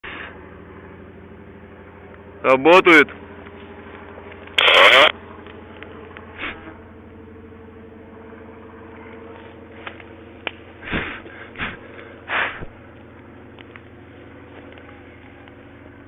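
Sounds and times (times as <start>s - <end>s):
steady engine drone: 0.0s - 16.0s.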